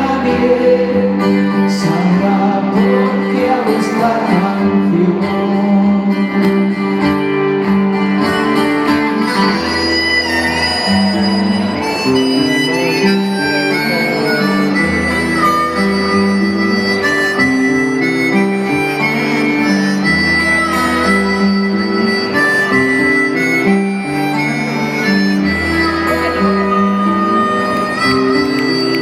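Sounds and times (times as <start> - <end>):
bass line: 0.0 - 29.0
guitar: 0.0 - 29.0
wind instrument melody: 0.0 - 29.0.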